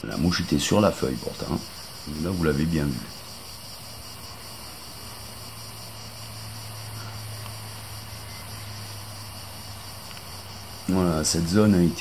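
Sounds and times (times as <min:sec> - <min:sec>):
high insect drone: 0:00.0 - 0:12.0
light hiss: 0:00.0 - 0:12.0.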